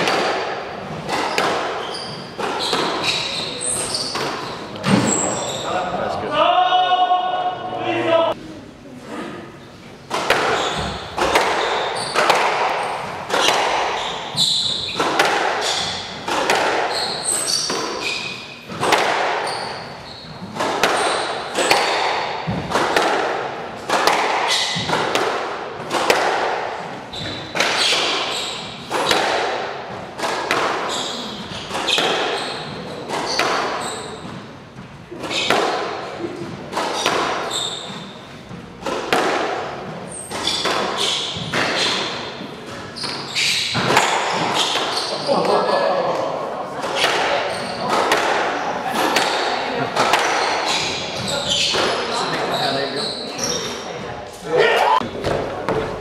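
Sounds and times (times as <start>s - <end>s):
squash ball hitting rackets and walls: 0.0s - 5.9s, 10.0s - 54.2s, 55.0s - 56.0s.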